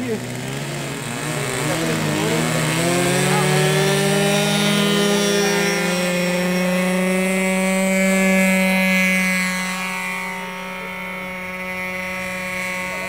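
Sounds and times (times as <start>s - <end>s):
model airplane motor drone: 0.0s - 13.0s.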